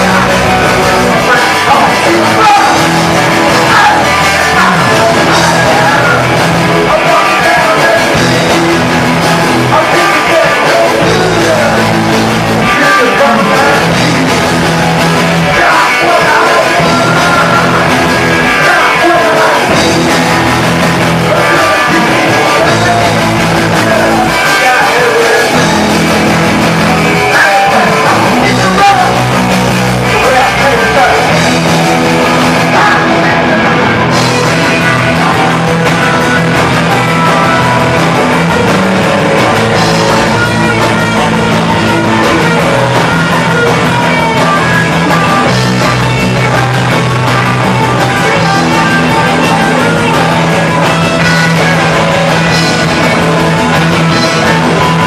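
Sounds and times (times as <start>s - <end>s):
drums: 0.0s - 55.0s
electric guitars: 0.0s - 55.0s.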